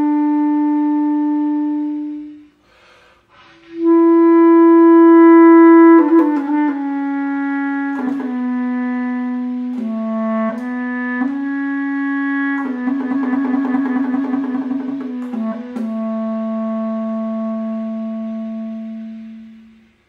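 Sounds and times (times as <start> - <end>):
solo bass clarinet: 0.0 - 20.0.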